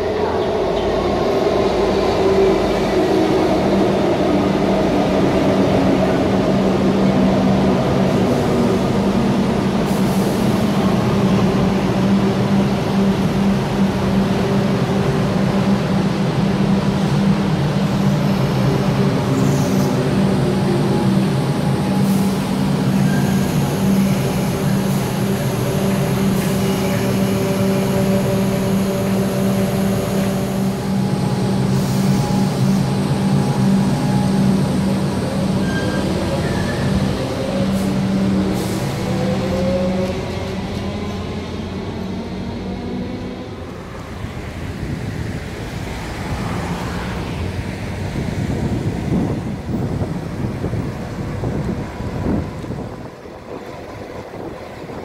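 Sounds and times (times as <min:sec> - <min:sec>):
low train hum: 0:00.0 - 0:55.0.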